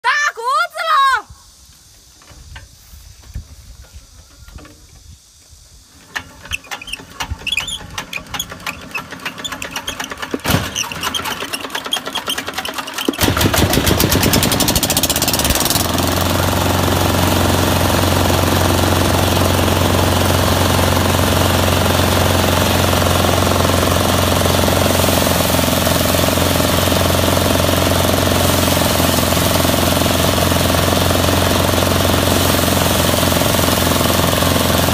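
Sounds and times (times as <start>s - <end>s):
diesel engine hand-cranked clatter: 6.0s - 34.9s
diesel engine running: 6.1s - 34.9s.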